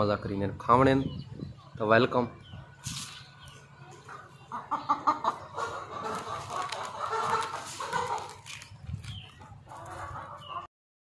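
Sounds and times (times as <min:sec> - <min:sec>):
chickens clucking: 0:00.0 - 0:10.7.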